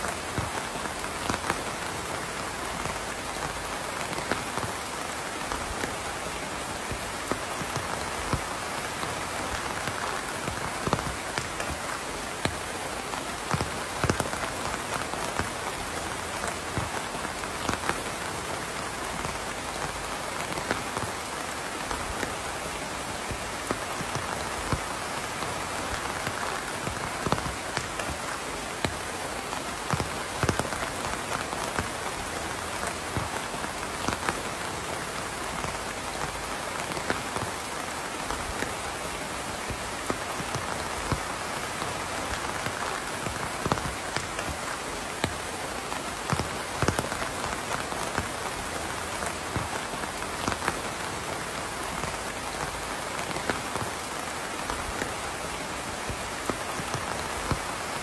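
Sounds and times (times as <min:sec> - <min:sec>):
rain on a hard surface: 0:00.0 - 0:58.0
raindrops ticking and tapping: 0:00.0 - 0:58.0.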